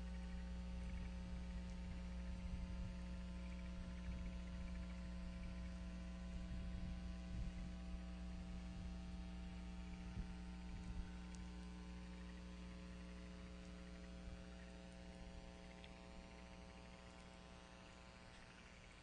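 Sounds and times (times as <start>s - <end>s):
electrical mains hum: 0.0s - 19.0s
faint low bumps: 0.0s - 19.0s.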